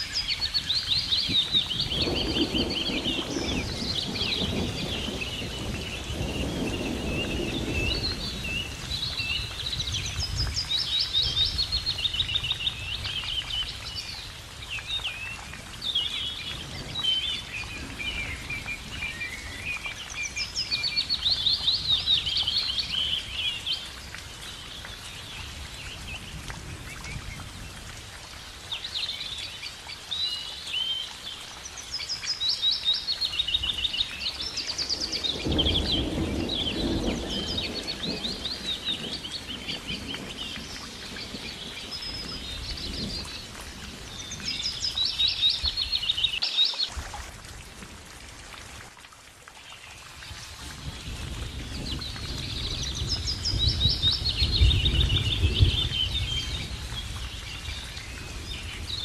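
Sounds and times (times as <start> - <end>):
small songbirds singing: 0.0 - 47.0, 49.7 - 59.0.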